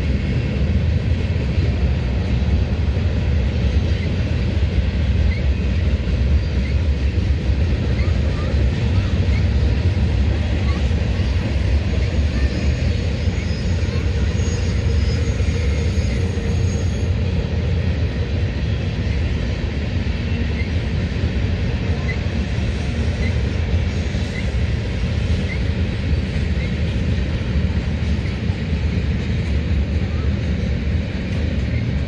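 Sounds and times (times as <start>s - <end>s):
freight train rumbling past: 0.0s - 32.0s.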